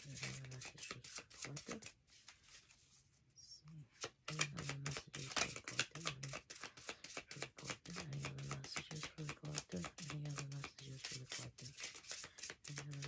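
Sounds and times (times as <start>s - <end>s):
cards being shuffled: 0.0s - 2.9s, 4.0s - 13.0s.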